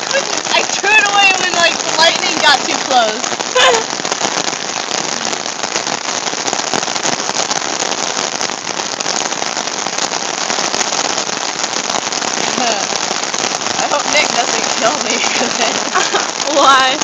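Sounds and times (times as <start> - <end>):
rain on an umbrella: 0.0 - 17.0.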